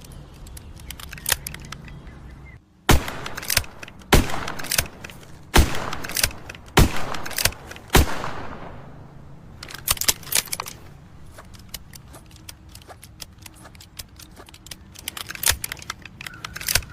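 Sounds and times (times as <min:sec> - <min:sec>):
metallic clicks and rattles: 0:00.0 - 0:02.1, 0:03.2 - 0:08.0, 0:09.2 - 0:16.9.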